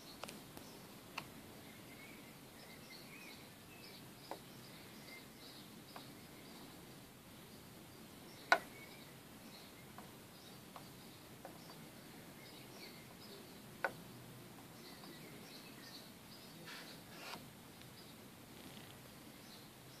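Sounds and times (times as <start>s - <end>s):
distant birds chirping: 0.0s - 20.0s.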